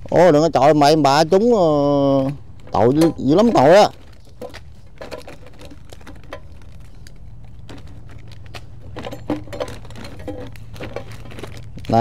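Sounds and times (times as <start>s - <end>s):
low steady hum: 0.0s - 12.0s
light clicks and crackles: 2.2s - 12.0s.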